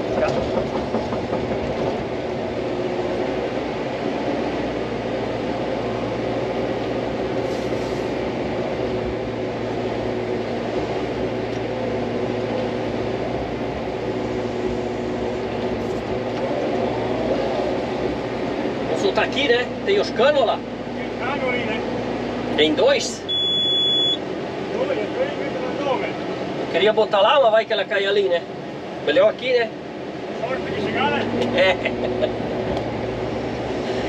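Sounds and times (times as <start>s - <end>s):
excavator diesel engine drone: 0.0s - 34.0s.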